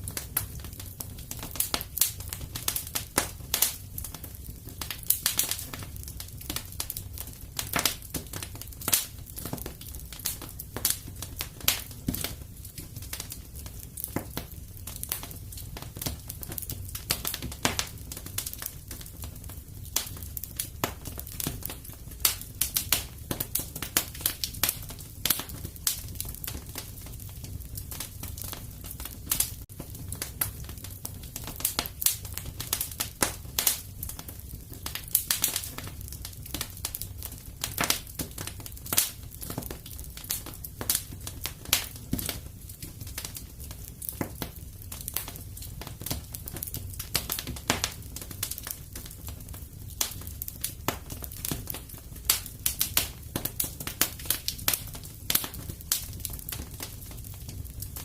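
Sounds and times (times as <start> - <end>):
fire flame rumble: 0.0 - 58.0
wood fire crackles and pops: 0.0 - 58.0.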